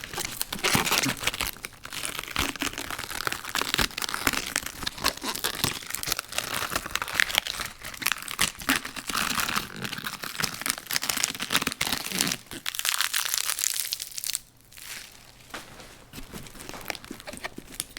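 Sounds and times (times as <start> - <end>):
lettuce leaves crackling and tearing: 0.0 - 17.9.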